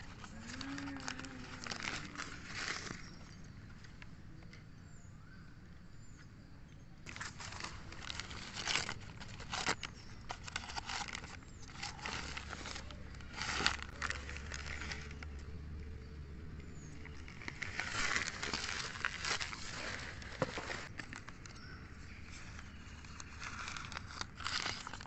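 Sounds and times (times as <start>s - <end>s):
newspaper rustling and crinkling: 0.0s - 4.1s, 7.1s - 15.8s, 16.7s - 25.0s.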